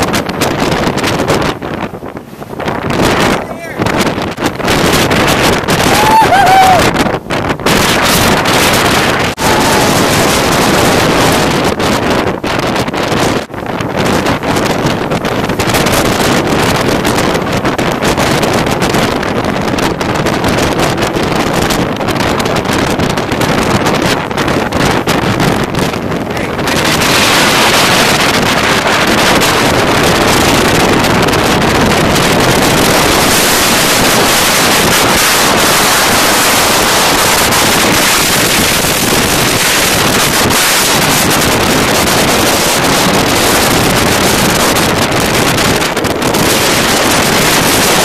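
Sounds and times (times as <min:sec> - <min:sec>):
storm wind gusting on microphone: 0:00.0 - 0:48.0.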